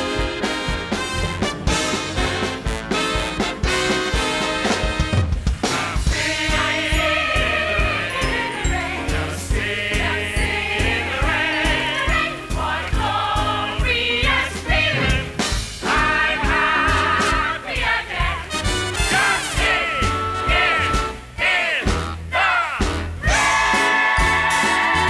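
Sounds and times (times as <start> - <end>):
ensemble voices singing: 0.0 - 25.0
orchestra playing over a beat: 0.0 - 25.0.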